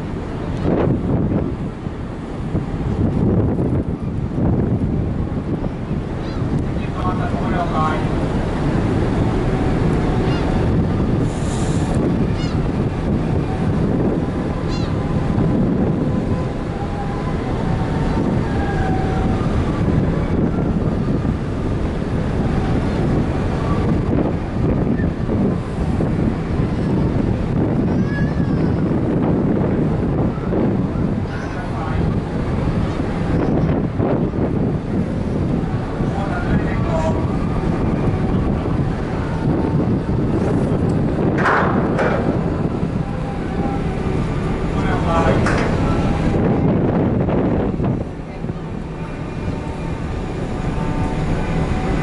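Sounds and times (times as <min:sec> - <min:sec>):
ship running noise: 0:00.0 - 0:52.0
wind buffeting microphone: 0:00.0 - 0:52.0.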